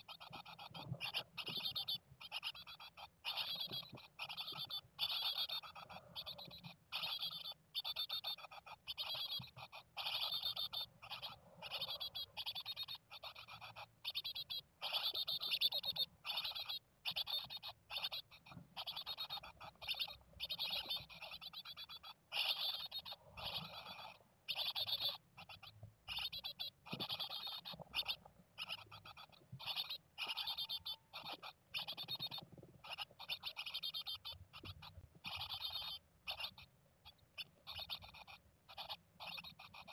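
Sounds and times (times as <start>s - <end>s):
nestlings chirping: 0.0s - 39.9s.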